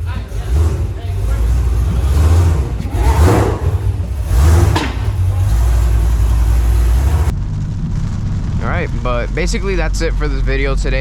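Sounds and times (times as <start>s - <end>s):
car exhaust low note: 0.0s - 10.5s.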